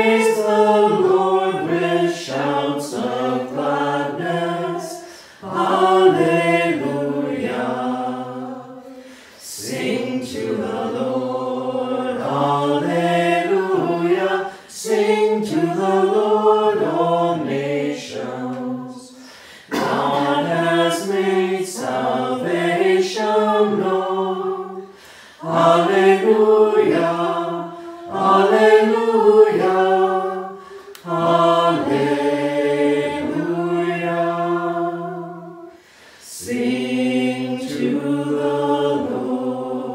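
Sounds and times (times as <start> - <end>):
person singing a slow hymn: 0.0 - 39.9.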